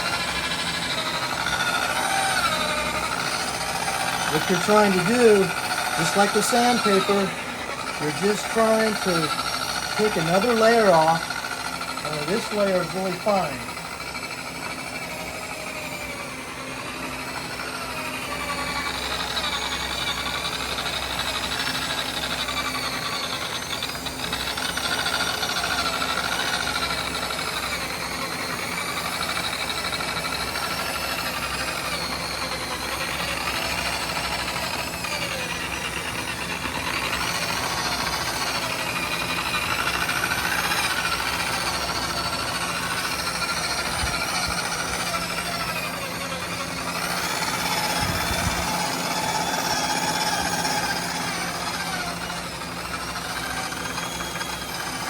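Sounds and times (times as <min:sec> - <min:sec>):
electric polisher motor whine: 0:00.0 - 0:55.0.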